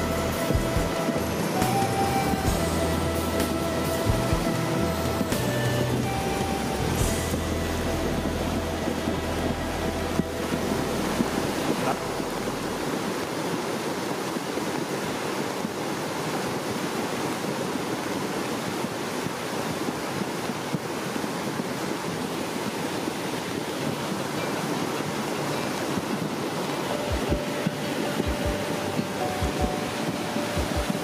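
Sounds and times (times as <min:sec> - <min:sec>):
flooded river roaring: 0:00.0 - 0:31.0.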